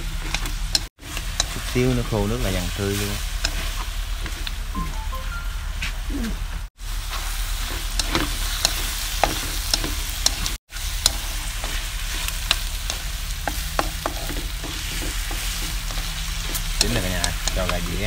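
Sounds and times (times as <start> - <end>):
meat sizzling in a pan: 0.0 - 4.7, 6.8 - 18.0.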